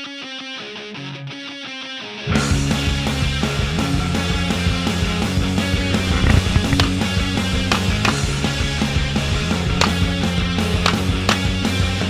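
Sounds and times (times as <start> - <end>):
guitar picking repeating figure: 0.0 - 12.0.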